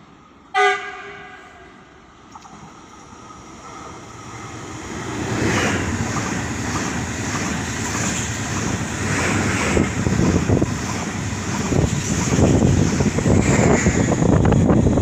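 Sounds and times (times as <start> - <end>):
train passing close by: 0.0 - 15.0.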